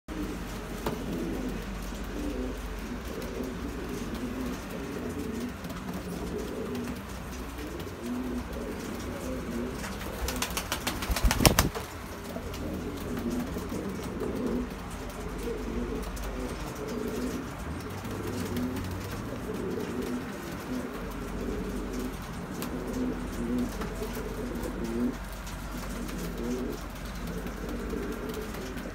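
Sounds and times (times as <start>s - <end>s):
pigeons cooing: 0.1s - 28.9s
wings flapping: 0.1s - 28.9s.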